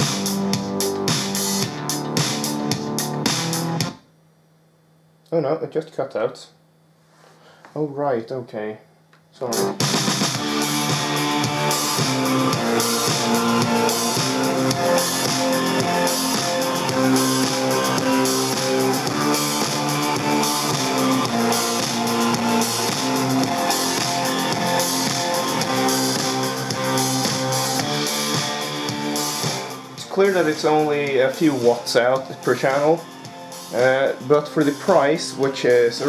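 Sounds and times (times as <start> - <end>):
guitar and drums music on speakers: 0.0 - 4.0, 9.5 - 36.0.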